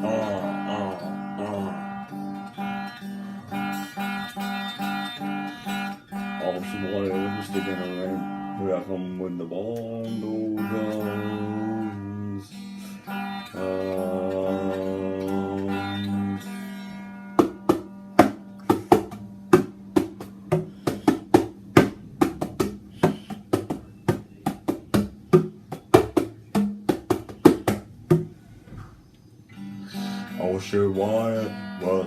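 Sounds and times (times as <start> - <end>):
guitar chords and plucked notes: 0.0 - 28.4, 29.4 - 32.0.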